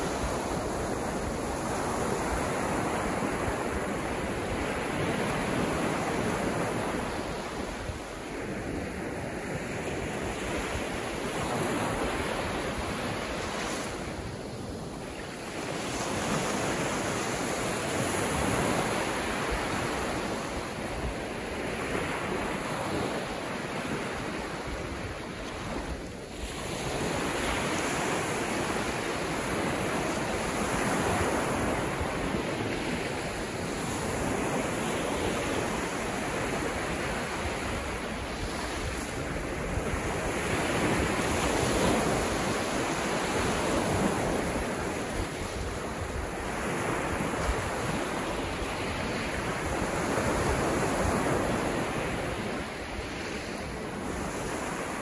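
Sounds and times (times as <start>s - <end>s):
ocean waves washing up beach: 0.0s - 55.0s.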